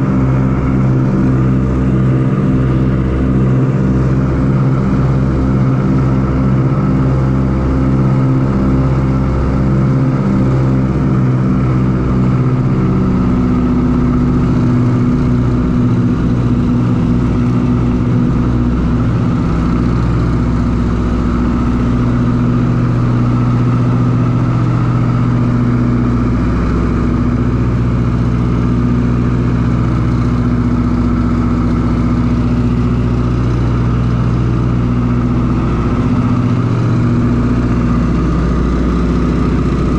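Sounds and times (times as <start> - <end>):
propeller plane engines droning: 0.0 - 39.9.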